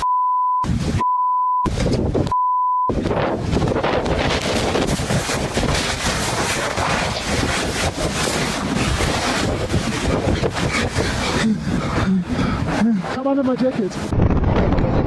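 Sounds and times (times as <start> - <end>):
wind buffeting microphone: 1.7 - 2.3, 2.9 - 15.0.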